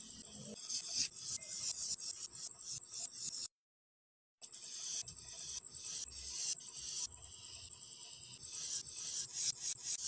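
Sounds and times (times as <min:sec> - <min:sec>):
marker scratching on paper: 0:00.5 - 0:03.6, 0:04.5 - 0:10.0.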